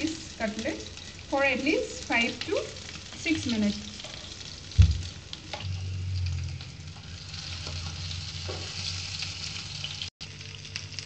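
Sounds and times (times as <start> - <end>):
food sizzling in oil: 0.0 - 11.0
low steady hum: 0.0 - 11.0.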